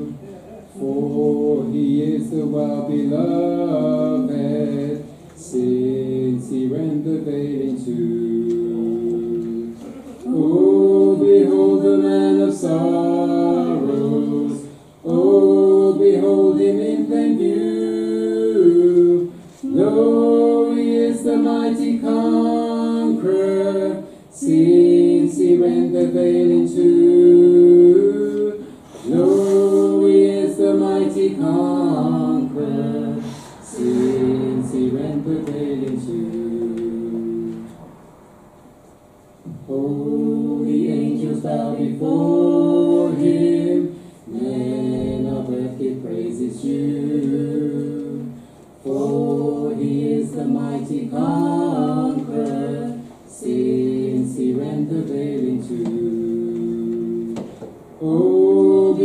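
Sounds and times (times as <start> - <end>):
man and woman singing a duet: 0.0 - 37.8, 39.4 - 59.0.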